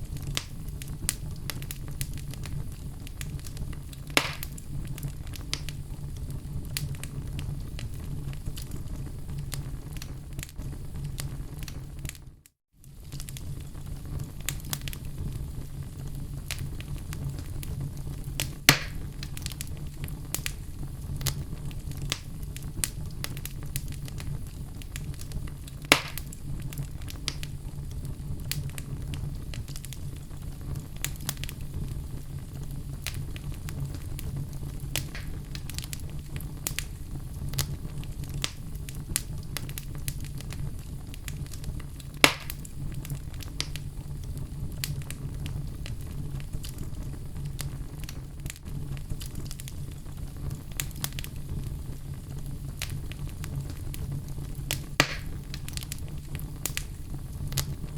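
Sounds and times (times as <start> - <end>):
fire crackling: 0.0 - 57.9
loud fire pops: 0.0 - 57.9.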